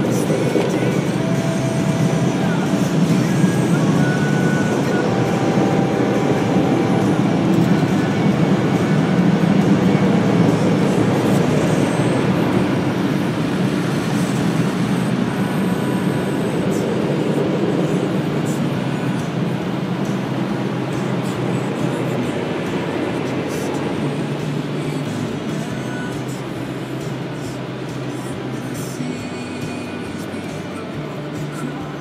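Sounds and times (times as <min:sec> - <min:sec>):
car wash air dryers blowing: 0:00.0 - 0:32.0.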